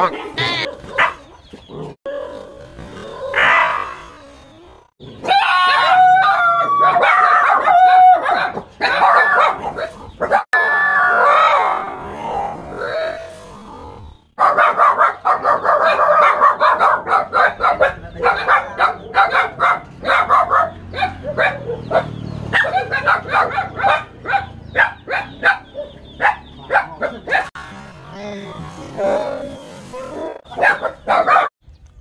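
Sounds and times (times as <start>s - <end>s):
small dogs yapping: 0.0s - 31.5s.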